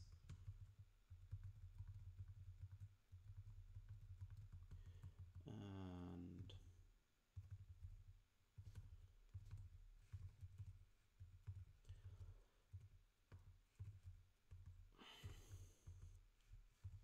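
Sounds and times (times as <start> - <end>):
faint keyboard typing: 0.0 - 17.0.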